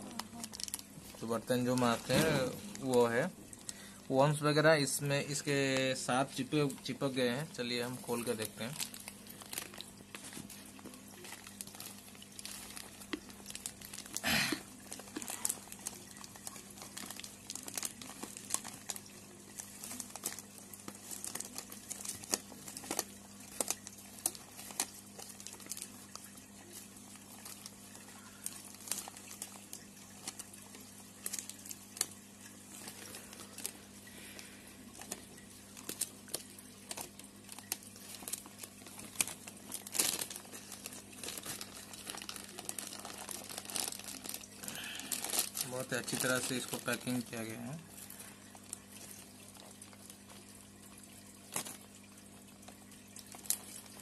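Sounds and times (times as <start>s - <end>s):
plastic bag crinkling: 0.0s - 54.0s.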